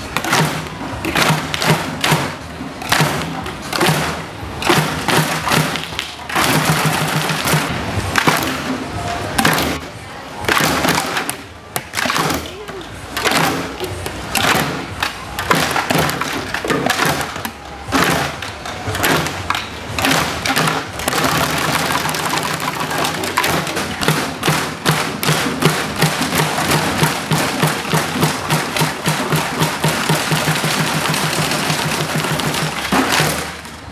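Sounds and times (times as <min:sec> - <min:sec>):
group drumming on plastic crates: 0:00.0 - 0:08.8, 0:09.4 - 0:09.9, 0:10.5 - 0:33.9.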